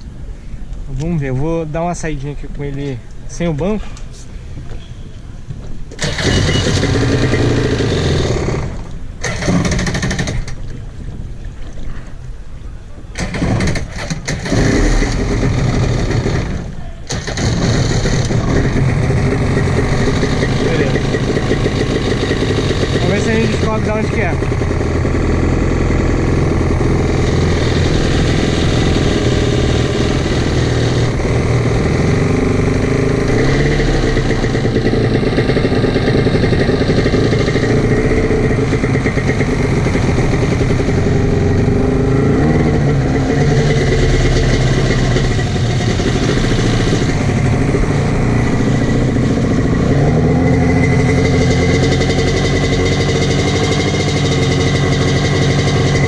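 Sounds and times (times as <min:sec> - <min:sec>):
jet ski engine revving: 0:06.0 - 0:10.7, 0:13.1 - 0:56.0.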